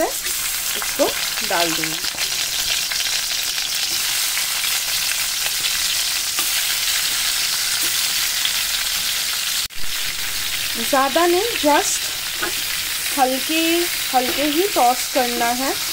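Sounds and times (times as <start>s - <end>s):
chicken sizzling in hot oil: 0.0s - 15.9s.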